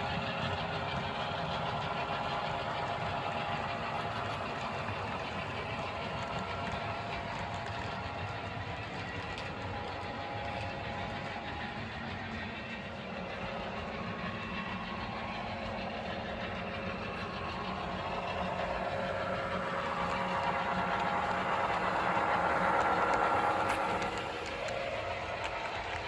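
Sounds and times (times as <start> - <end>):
model train motor and wheels: 0.0 - 26.0.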